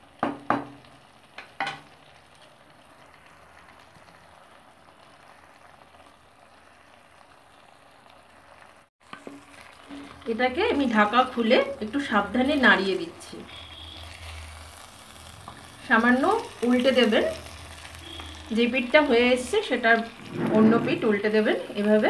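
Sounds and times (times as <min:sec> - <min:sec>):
gravy simmering in a pan: 0:00.0 - 0:12.9, 0:13.5 - 0:20.3.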